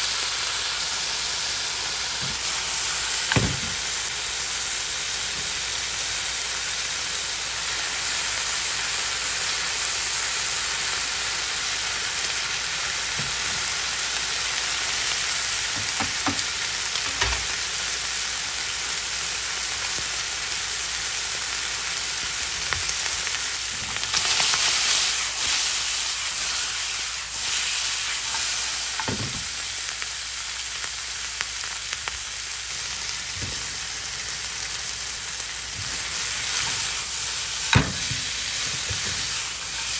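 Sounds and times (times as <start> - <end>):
meat and peppers sizzling in oil: 0.0 - 39.9.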